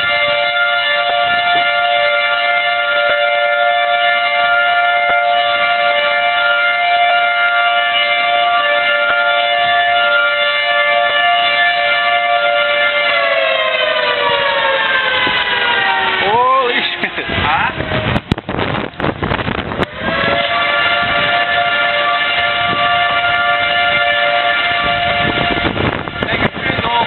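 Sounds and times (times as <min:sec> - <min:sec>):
warning siren wailing: 0:00.0 - 0:27.0.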